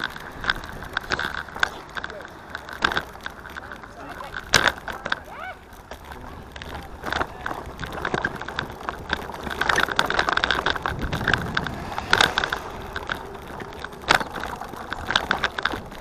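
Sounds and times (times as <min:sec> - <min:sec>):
bicycle frame rattling: 0:00.0 - 0:16.0
tyre rumble and wind: 0:00.0 - 0:16.0.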